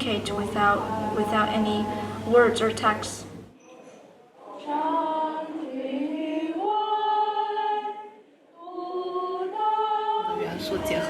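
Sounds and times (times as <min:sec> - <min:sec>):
unaccompanied singing: 0:00.0 - 0:02.8, 0:04.4 - 0:11.0.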